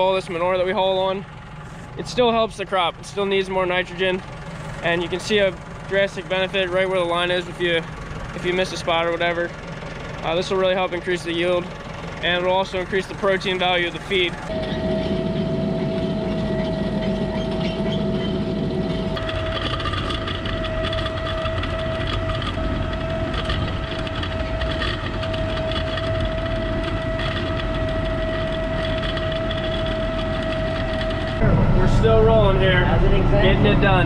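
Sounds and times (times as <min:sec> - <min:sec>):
steady high whine: 0:00.0 - 0:34.0
tractor machine drone: 0:00.0 - 0:34.0
second higher whine: 0:02.0 - 0:34.0.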